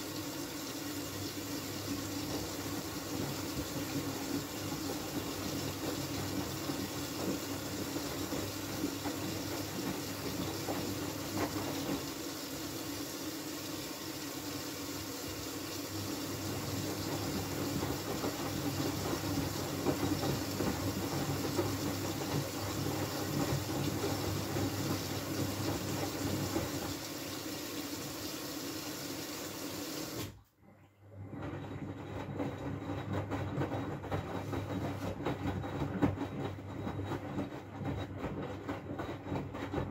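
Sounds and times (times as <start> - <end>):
washing machine drum turning: 0.0 - 30.3, 31.2 - 39.9.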